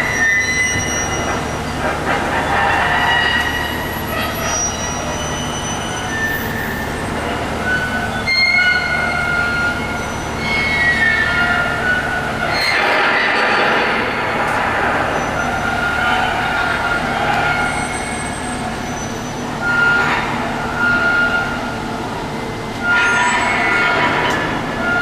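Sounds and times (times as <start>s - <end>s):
high-pitched squealing tones: 0.0s - 25.0s.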